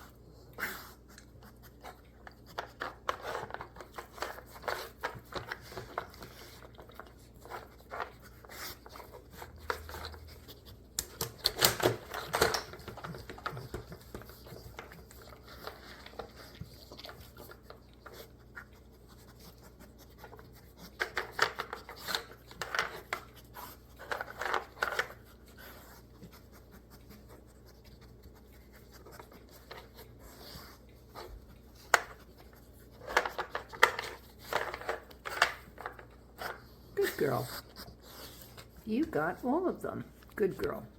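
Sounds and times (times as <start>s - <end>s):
dog pawing at game pieces: 1.0s - 39.4s.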